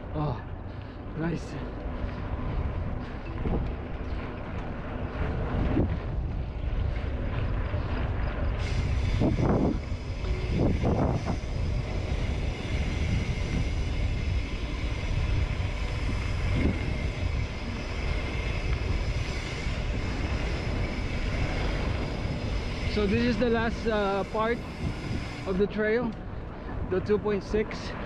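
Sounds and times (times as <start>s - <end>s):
bike tyres rolling on dirt: 0.0s - 28.0s
wind buffeting microphone: 0.0s - 28.0s.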